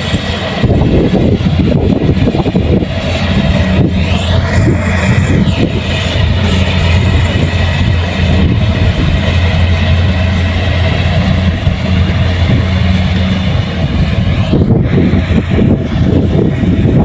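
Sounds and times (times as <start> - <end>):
combine harvester diesel drone: 0.0 - 17.0
uneven low clatter: 0.0 - 17.0.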